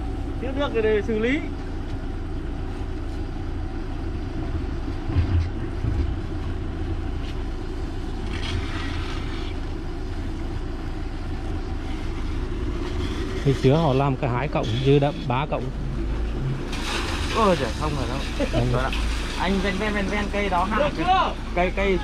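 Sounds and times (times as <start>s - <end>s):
truck engine and vacuum pump: 0.0s - 22.0s.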